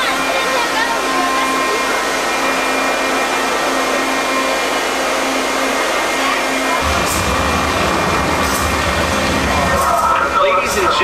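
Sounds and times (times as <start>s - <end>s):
steady rushing air noise: 2.0s - 11.0s.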